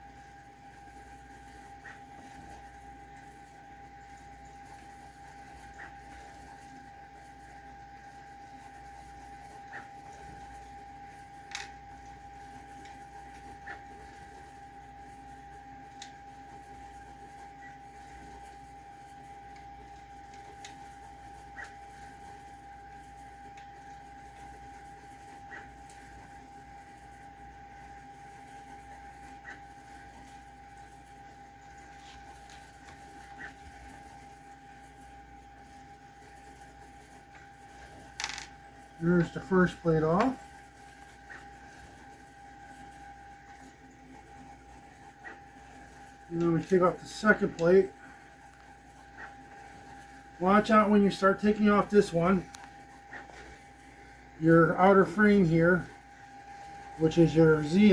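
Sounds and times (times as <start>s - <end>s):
steady high-pitched hum: 0.0s - 57.9s.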